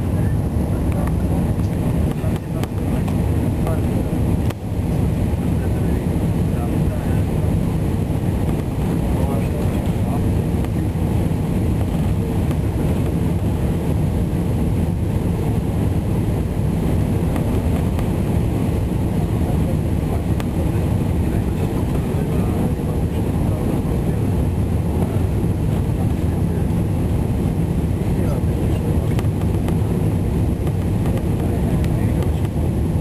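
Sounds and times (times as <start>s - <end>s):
airplane cabin engine rush: 0.0s - 33.0s.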